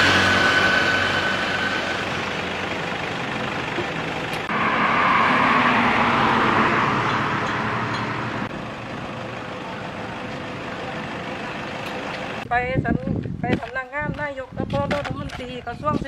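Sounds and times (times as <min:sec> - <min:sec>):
road traffic noise: 0:00.0 - 0:13.8.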